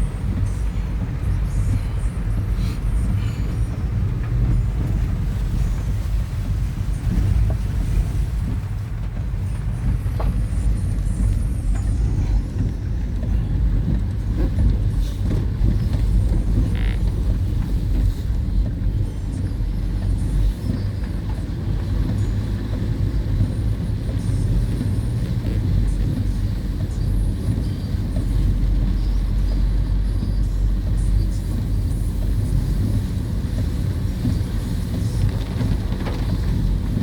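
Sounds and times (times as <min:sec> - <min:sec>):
road noise: 0:00.0 - 0:37.0
vehicle engine rumble: 0:00.0 - 0:37.0.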